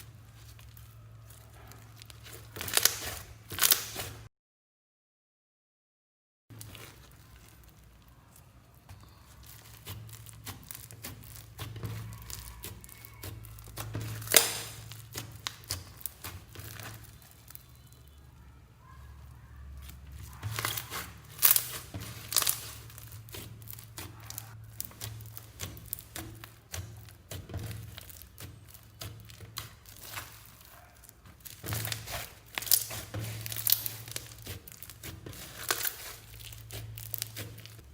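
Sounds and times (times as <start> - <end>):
slime crackling and popping: 0.0 - 4.3, 6.5 - 18.2, 18.9 - 37.9.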